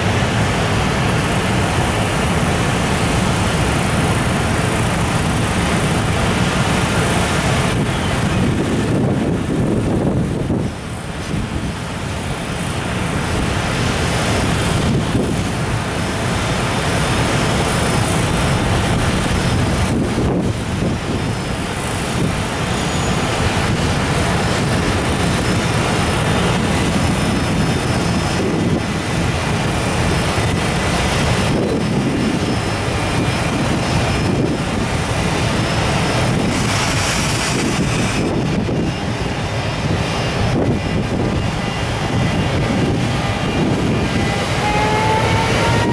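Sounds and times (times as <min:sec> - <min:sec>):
freight train passing: 0:00.0 - 0:45.9
wind on microphone: 0:00.0 - 0:45.9.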